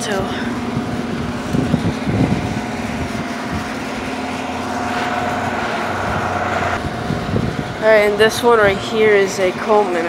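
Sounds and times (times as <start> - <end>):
high whine: 0.0 - 8.7
air conditioner units humming: 0.0 - 10.0.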